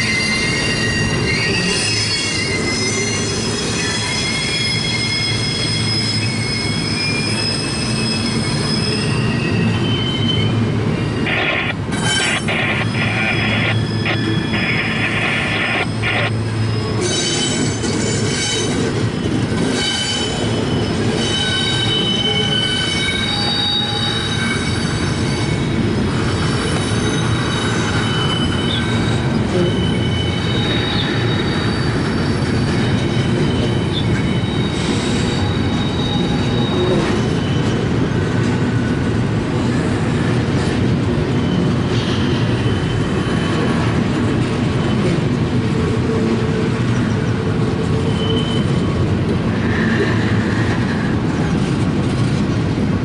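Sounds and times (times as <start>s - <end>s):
metallic wheel squeal: 0.0s - 38.3s, 41.3s - 44.1s, 47.9s - 51.1s
train wheels rumbling on rail: 0.0s - 53.0s.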